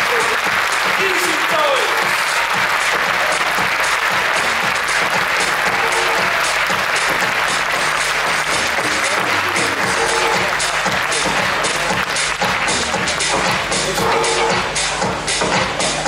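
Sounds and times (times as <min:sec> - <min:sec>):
audience applauding: 0:00.0 - 0:14.6
music with regular beat: 0:00.0 - 0:16.0.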